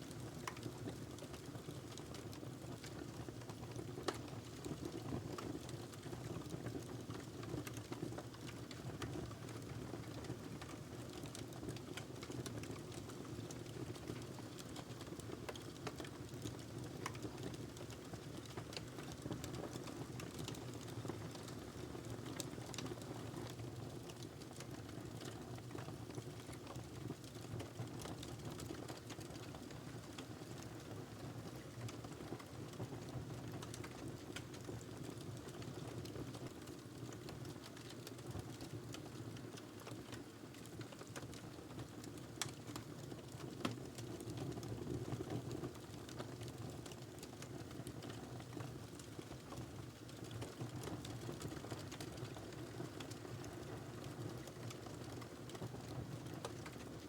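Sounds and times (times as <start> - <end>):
wood fire crackling: 0.1 - 4.9, 7.1 - 30.9, 31.6 - 32.5, 33.4 - 57.0.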